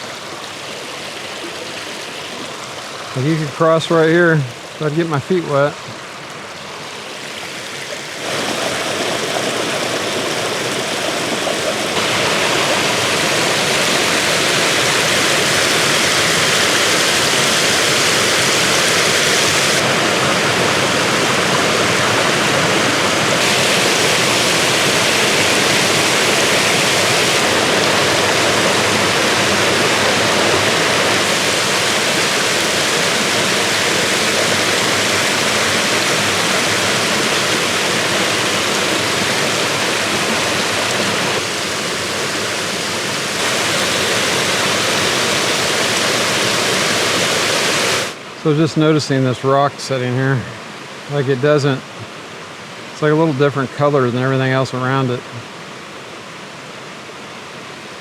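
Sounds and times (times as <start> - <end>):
waterfall splashing into creek: 0.0 - 56.6.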